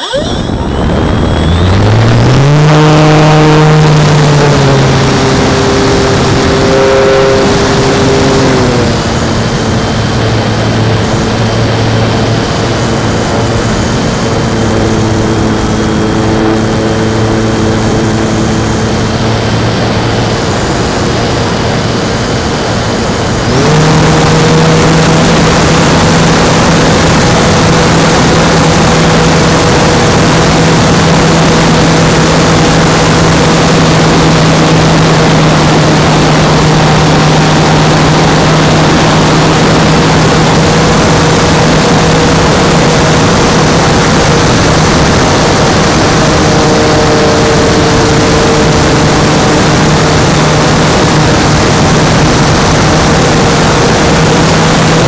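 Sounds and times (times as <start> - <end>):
model plane motor whining: 0.0 - 55.0
rushing air noise: 0.0 - 55.0.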